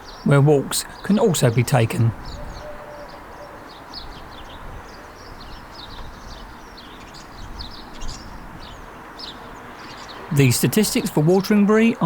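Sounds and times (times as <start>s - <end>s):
low background noise: 0.0s - 12.0s
small songbirds chirping: 0.0s - 12.0s.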